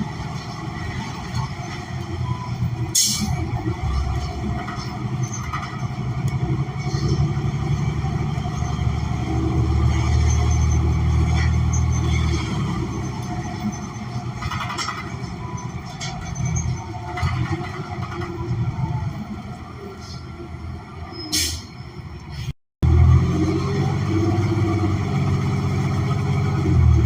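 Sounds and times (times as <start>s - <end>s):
bus engine drone: 0.0s - 27.0s.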